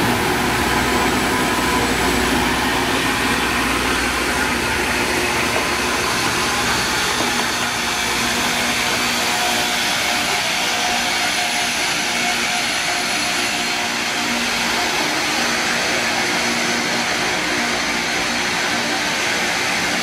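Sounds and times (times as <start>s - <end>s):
rail grinder grinding hiss: 0.0s - 20.0s.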